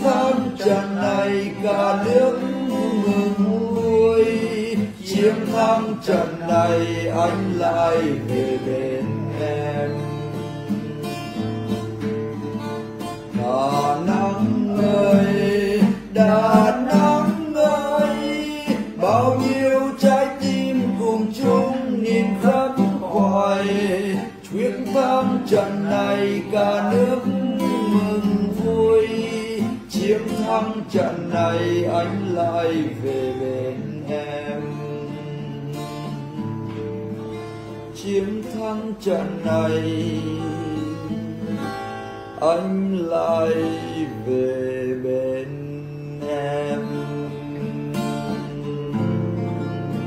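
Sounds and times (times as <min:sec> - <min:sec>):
acoustic guitar: 0:00.0 - 0:50.0
man singing: 0:00.0 - 0:50.0.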